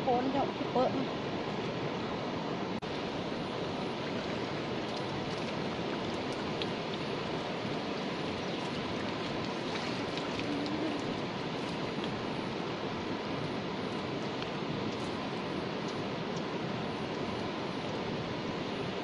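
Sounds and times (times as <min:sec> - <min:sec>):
rain falling on river: 0:02.8 - 0:19.0.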